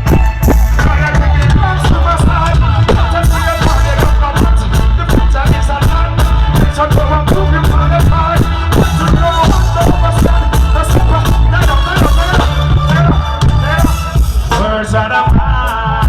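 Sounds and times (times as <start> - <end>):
live reggae band playing: 0.0 - 16.0.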